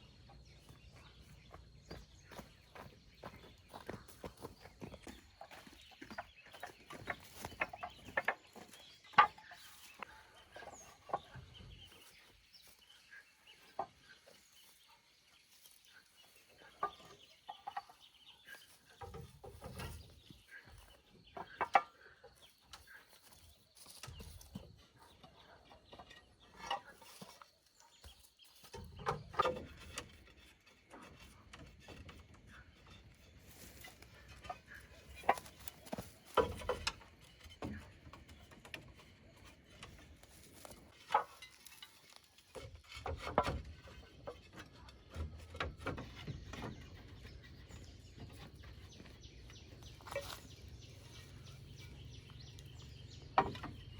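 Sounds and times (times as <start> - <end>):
farm animal calls: 0.0 - 53.9.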